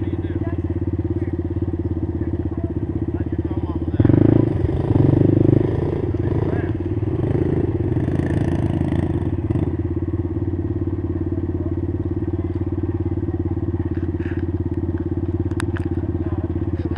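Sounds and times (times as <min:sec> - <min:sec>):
small engine idling: 0:00.0 - 0:16.9.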